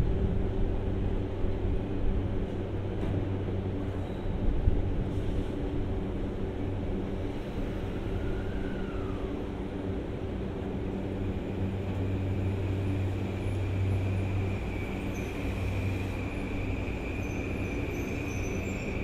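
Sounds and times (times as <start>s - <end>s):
train low hum: 0.0s - 19.0s.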